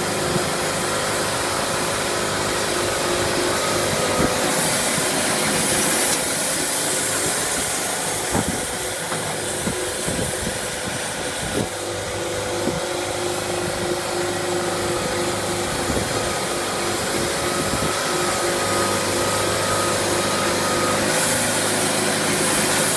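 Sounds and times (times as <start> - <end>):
sawmill machinery drone: 0.0 - 22.9.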